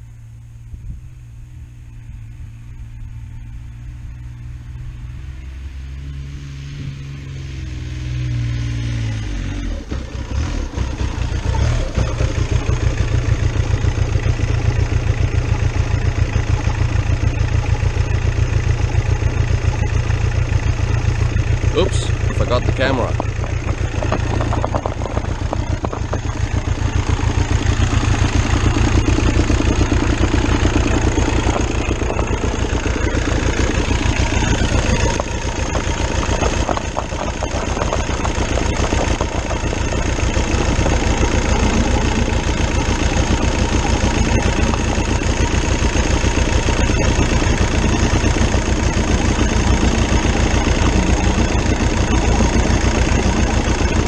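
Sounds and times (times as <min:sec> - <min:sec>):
diesel motorcycle engine idling: 0:00.0 - 0:54.0.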